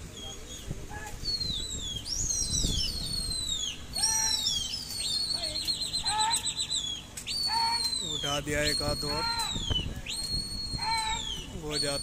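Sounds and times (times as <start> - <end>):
people whistling shrilly: 0.2 - 12.0
warbling quavering whistle: 1.2 - 12.0.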